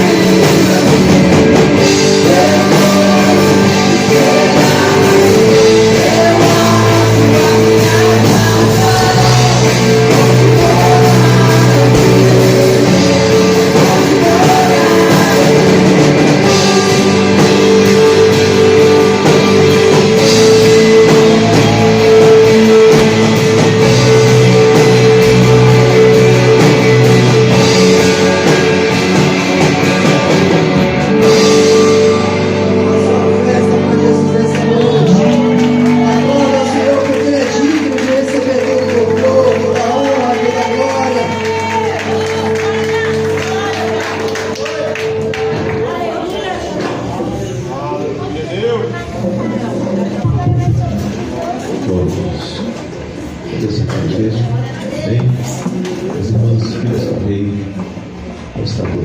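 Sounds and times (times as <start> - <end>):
drum kit: 0.0 - 47.7
rock band playing: 0.0 - 53.5
guitar: 0.0 - 59.0.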